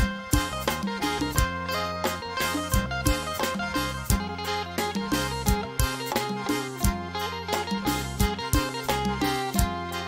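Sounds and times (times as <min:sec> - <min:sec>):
plucked-string melody: 0:00.0 - 0:10.0
steady drum beat: 0:00.0 - 0:10.0
sustained bass notes: 0:00.0 - 0:10.0.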